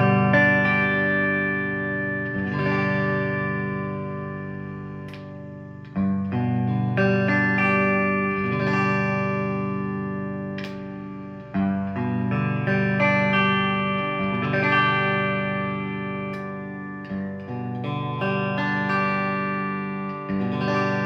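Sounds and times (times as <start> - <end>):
clean electric guitar chords strummed: 0.0 - 21.0.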